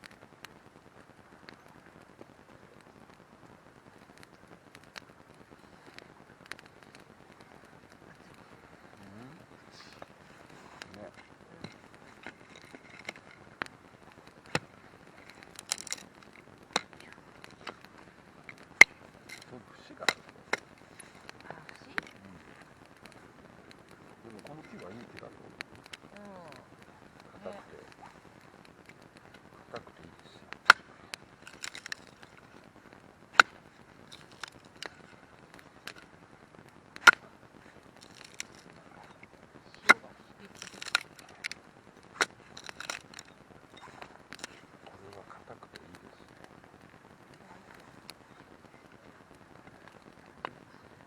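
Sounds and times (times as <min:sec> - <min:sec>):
campfire crackling: 0:00.0 - 0:51.0.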